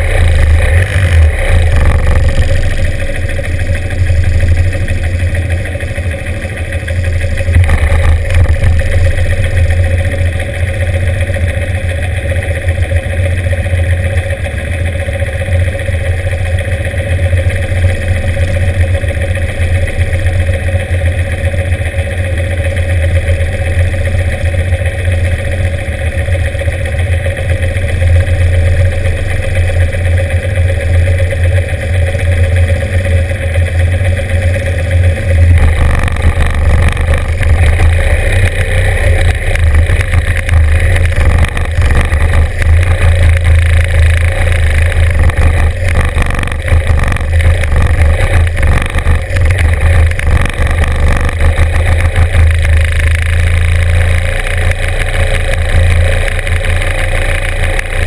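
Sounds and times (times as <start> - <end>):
engines revving: 0.0 - 13.8, 16.4 - 58.0
motorcycle engine idling: 0.0 - 58.0.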